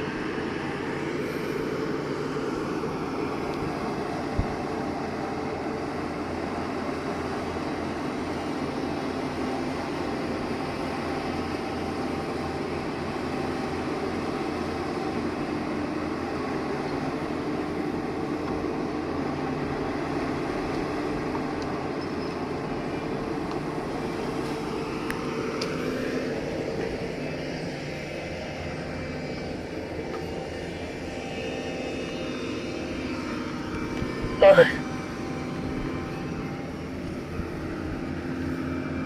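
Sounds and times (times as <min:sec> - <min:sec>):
excavator diesel engine droning: 0:00.0 - 0:39.0.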